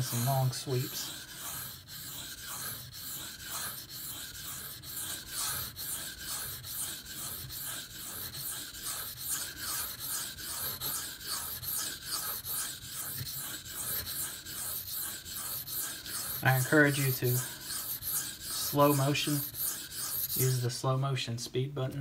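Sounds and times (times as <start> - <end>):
knife scraping on whetstone: 0.0 - 20.8.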